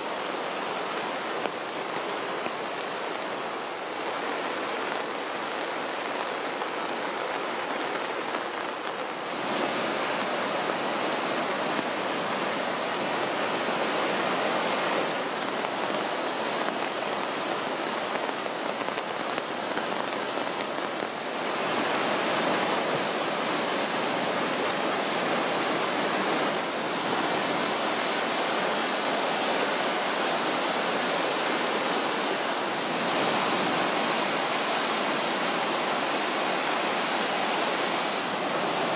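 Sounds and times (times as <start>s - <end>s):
whitewater rushing: 0.0s - 38.9s.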